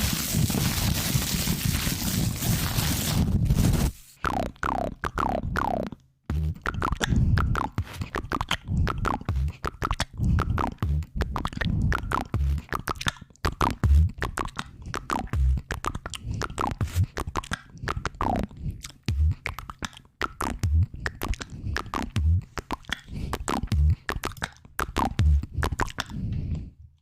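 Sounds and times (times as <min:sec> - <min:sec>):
wet mouth clicks and pops: 0:04.2 - 0:26.7.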